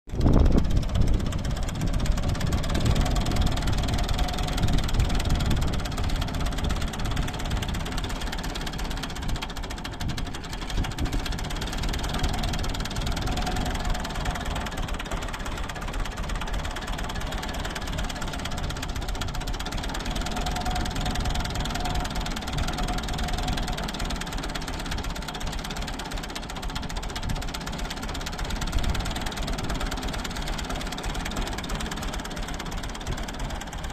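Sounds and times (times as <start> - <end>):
tractor engine misfiring: 0.1 - 33.9.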